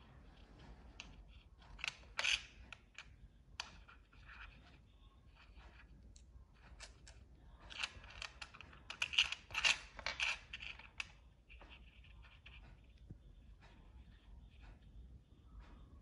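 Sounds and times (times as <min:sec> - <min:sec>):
marker tapping and scratching on shell: 0:00.0 - 0:15.1.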